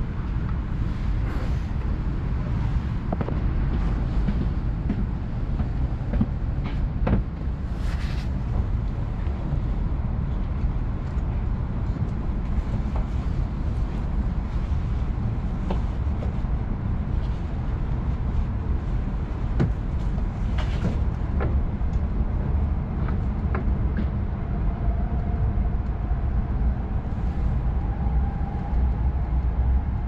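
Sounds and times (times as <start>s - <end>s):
train low rumble: 0.0s - 30.0s.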